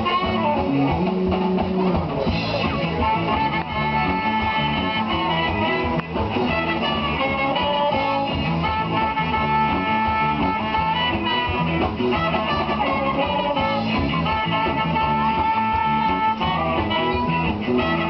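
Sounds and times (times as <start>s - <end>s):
drum kit: 0.0s - 18.0s
guitar: 0.0s - 18.0s
saxophone and trumpet: 0.0s - 18.0s.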